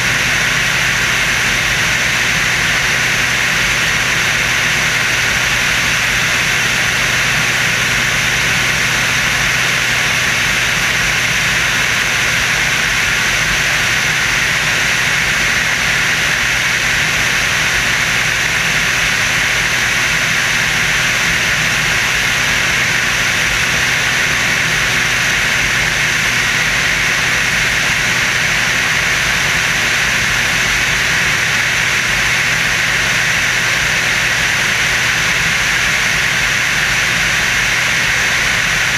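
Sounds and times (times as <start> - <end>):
aircraft engine and wind noise: 0.0 - 38.9.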